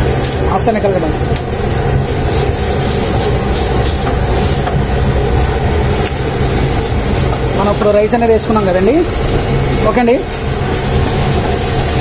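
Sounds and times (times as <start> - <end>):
gas burner rumbling: 0.0 - 12.0.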